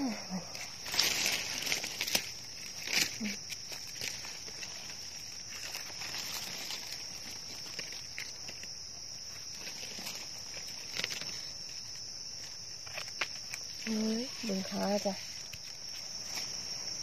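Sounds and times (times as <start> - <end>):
insects droning: 0.0 - 17.0
rustling of dry leaves: 0.0 - 17.0.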